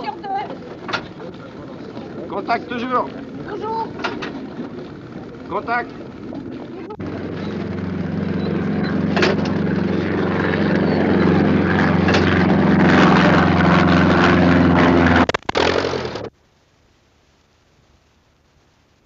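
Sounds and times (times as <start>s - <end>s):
biplane piston engine running: 0.0s - 16.3s.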